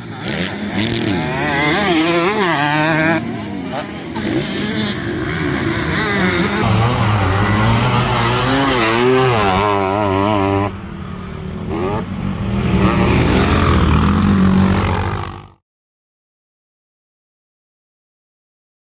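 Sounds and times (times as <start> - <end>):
motocross bike engines revving: 0.0 - 15.6.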